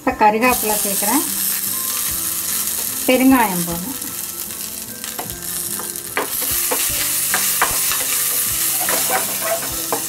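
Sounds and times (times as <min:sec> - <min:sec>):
spices sizzling in oil: 0:00.4 - 0:10.0
spatula stirring: 0:01.4 - 0:10.0.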